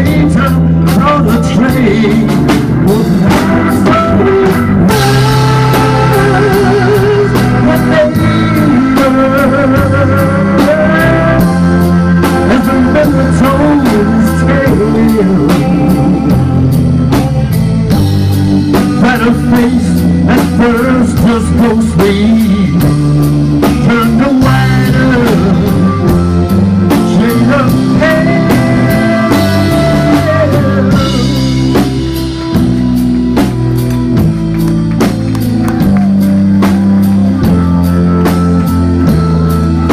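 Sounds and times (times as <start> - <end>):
electric guitar lead melody: 0.0 - 39.9
live rock blues band: 0.0 - 39.9.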